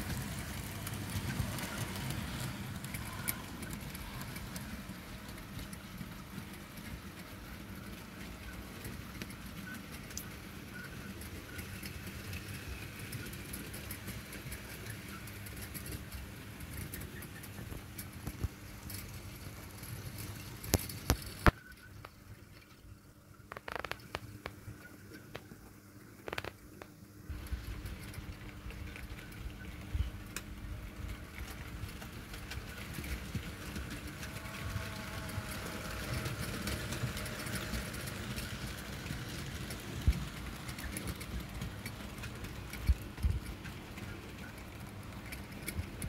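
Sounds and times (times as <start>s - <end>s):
model train running on track: 0.0s - 46.0s.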